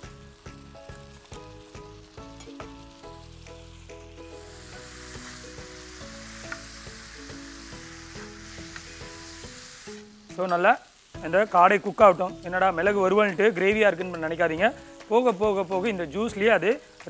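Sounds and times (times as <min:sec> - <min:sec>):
meat sizzling in a pan: 0:00.0 - 0:17.0
melodic background music with bass: 0:00.0 - 0:17.0.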